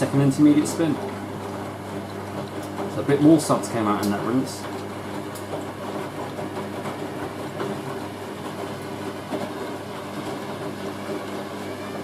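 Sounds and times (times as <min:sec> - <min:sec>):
washing machine motor humming: 0:00.0 - 0:12.0.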